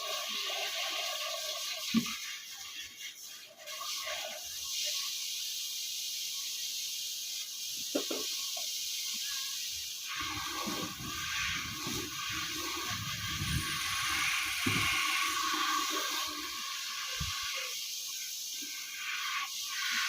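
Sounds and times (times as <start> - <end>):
water running and splashing: 0.0 - 20.0.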